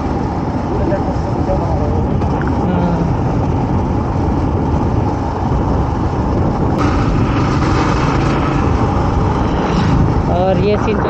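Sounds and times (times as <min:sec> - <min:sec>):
motorcycle engine running: 0:00.0 - 0:11.0
wind rushing on microphone: 0:00.0 - 0:11.0.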